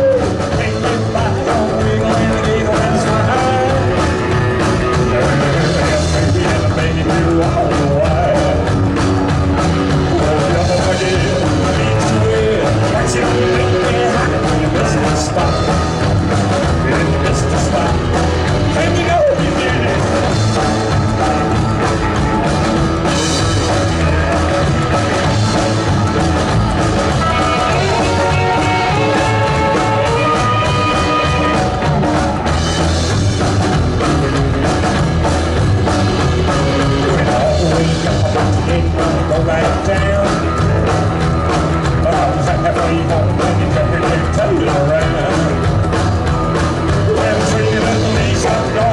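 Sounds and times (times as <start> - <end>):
person singing: 0.0 - 8.7, 9.9 - 16.1, 16.7 - 26.2, 27.0 - 32.2, 36.4 - 41.2, 41.8 - 45.7, 46.9 - 48.9
drum kit: 0.0 - 48.9
guitar: 0.0 - 48.9.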